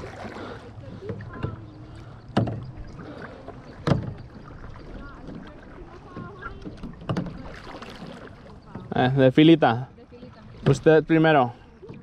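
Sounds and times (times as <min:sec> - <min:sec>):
paddle knocking on kayak: 0:00.0 - 0:09.1, 0:10.1 - 0:12.0
paddle strokes in water: 0:00.0 - 0:12.0.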